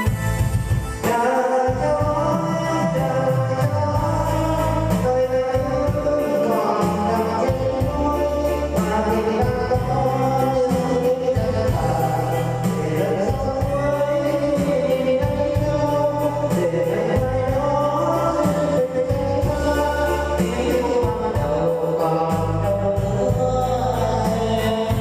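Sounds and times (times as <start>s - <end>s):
backing music with bass line: 0.0s - 25.0s
person singing slow song: 0.0s - 25.0s.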